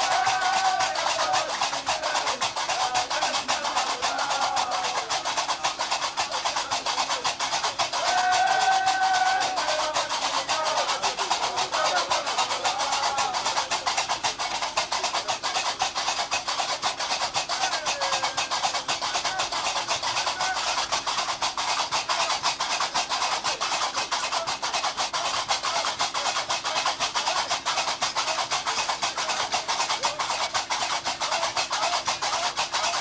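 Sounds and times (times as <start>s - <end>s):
iron castanets clattering: 0.0s - 33.0s.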